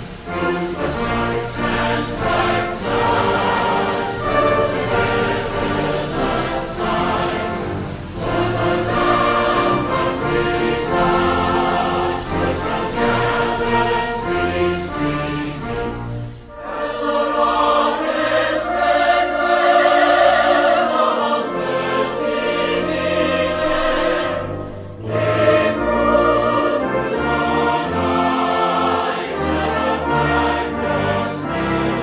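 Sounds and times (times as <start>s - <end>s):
operatic choir singing: 0.0s - 32.0s
orchestral music: 0.0s - 32.0s.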